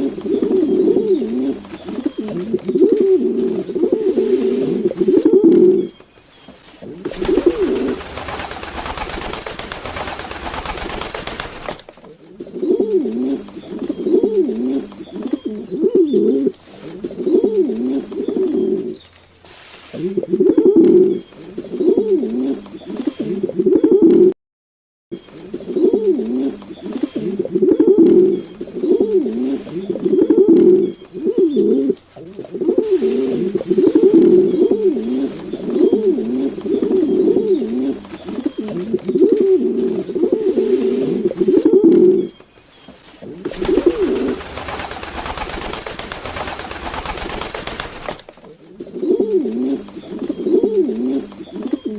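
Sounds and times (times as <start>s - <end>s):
pigeons cooing: 0.0s - 6.0s, 6.8s - 19.0s, 20.0s - 24.3s, 25.2s - 51.9s.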